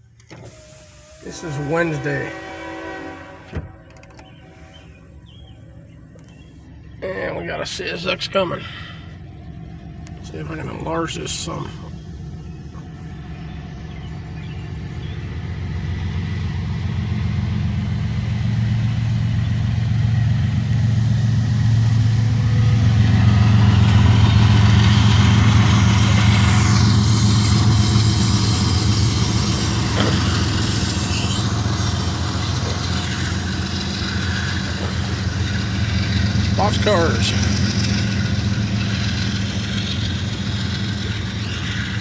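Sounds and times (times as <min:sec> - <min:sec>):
diesel locomotive engine rumble: 0:00.0 - 0:42.0
freight cars rolling by: 0:00.0 - 0:42.0.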